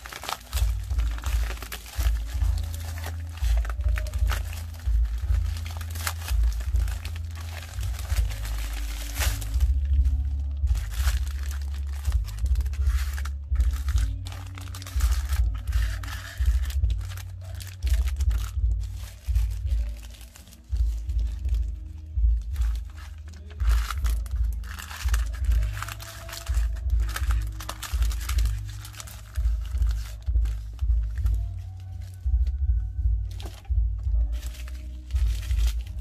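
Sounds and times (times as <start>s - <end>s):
plastic packaging crinkling and tearing: 0.0s - 36.0s.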